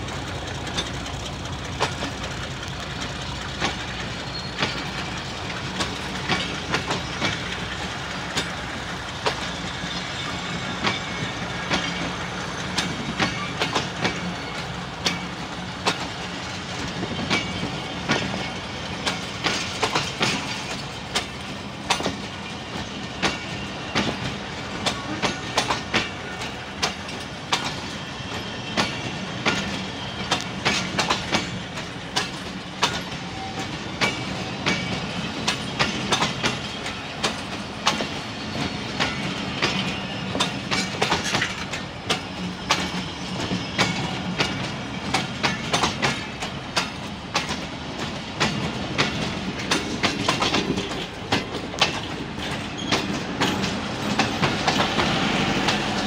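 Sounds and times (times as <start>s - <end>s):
train rolling rumble: 0.0s - 56.0s
wheels clattering over rail joints: 0.0s - 56.0s.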